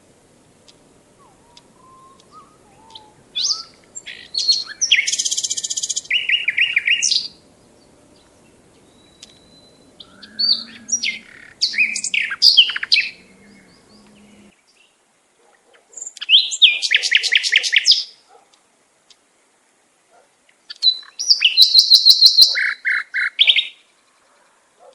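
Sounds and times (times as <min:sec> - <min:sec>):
songbird chirps and trills: 0:00.0 - 0:24.9.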